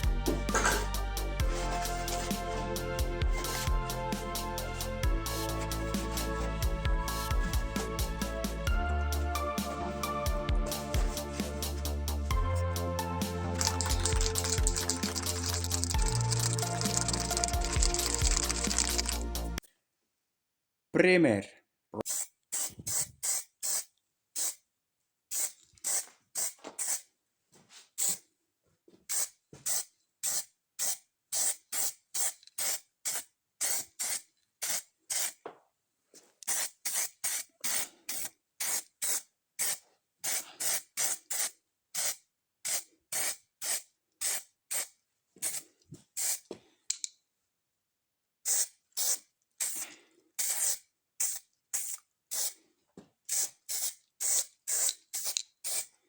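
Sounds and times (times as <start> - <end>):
spray can hissing: 0.0 - 8.6, 9.6 - 19.6, 22.0 - 24.6, 25.3 - 27.0, 28.0 - 28.2, 29.1 - 35.4, 36.4 - 45.6, 46.2 - 46.4, 48.5 - 52.6, 53.3 - 55.9.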